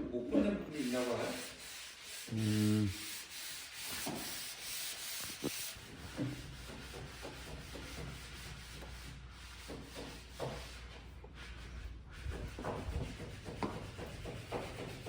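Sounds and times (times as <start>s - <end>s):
wood being sanded: 0.7s - 15.0s.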